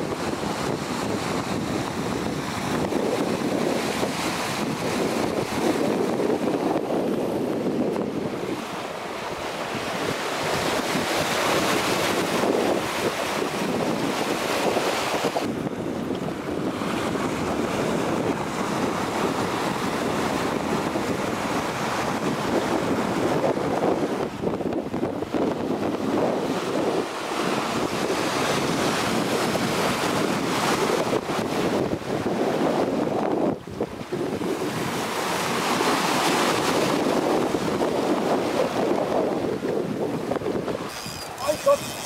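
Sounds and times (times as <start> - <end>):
water rushing along hull: 0.0 - 42.0
wind buffeting microphone: 0.0 - 42.0.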